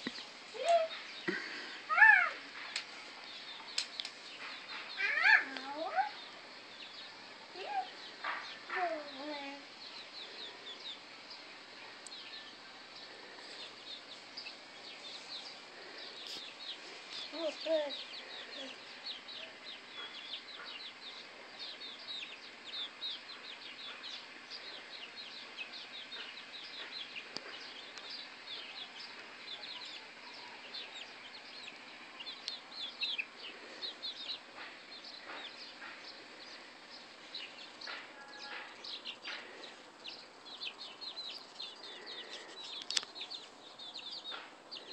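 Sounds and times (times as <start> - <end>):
chickens clucking and chirping: 0.0 - 44.9.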